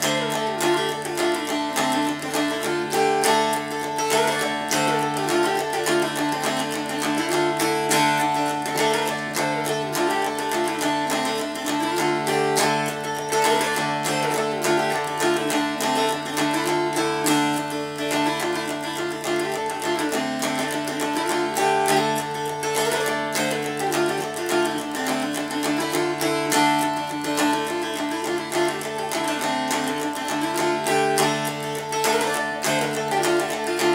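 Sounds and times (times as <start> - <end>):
strummed dulcimer fiddle tune: 0.0 - 33.9.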